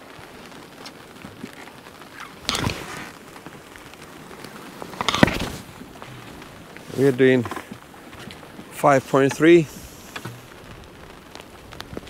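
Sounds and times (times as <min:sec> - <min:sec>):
water rushing around boat: 0:00.0 - 0:12.0.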